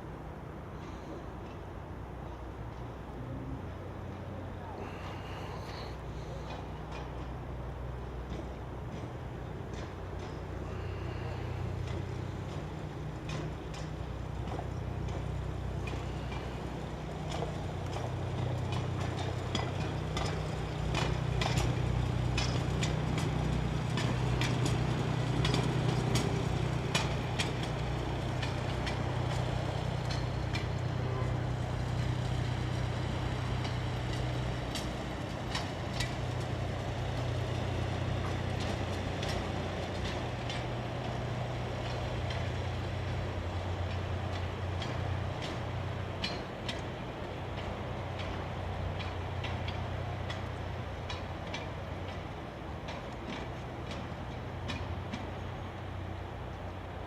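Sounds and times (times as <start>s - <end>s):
diesel engine humming: 0.0s - 57.0s.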